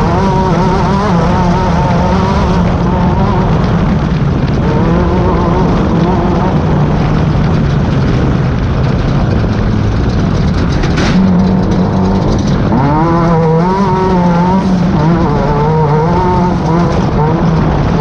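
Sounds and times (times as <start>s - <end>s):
heavy rattle: 0.0s - 18.0s
race car engine revving: 0.0s - 18.0s
road noise: 0.0s - 18.0s.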